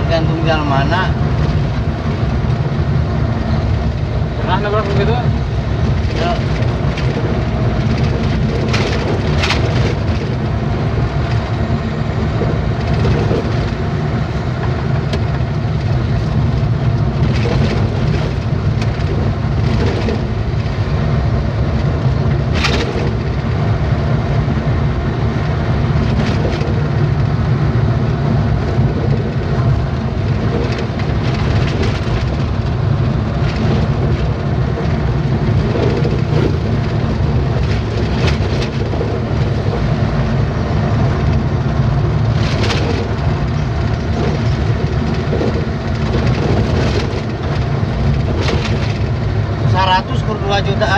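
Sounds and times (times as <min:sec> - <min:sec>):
truck engine and tyres droning: 0:00.0 - 0:50.9
sharp knocks and rattles: 0:03.7 - 0:11.6, 0:12.3 - 0:13.9, 0:15.0 - 0:21.0, 0:21.7 - 0:23.6, 0:25.9 - 0:27.4, 0:28.2 - 0:50.9.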